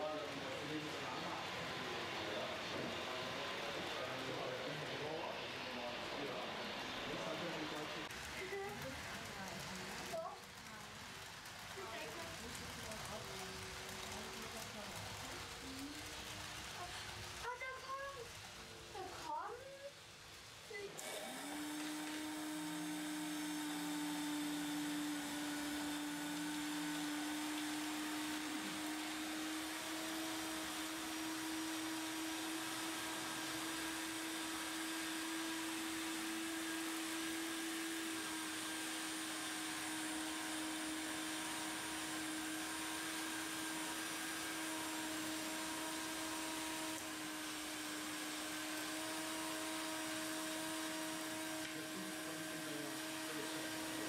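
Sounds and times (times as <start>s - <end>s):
small electric motor whine: 0.0s - 54.0s.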